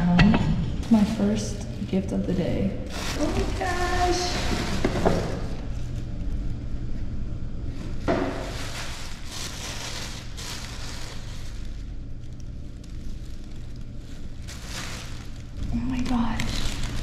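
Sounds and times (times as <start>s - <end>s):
steady low hum: 0.0s - 17.0s
tissue paper crinkling: 0.8s - 6.5s, 7.7s - 17.0s.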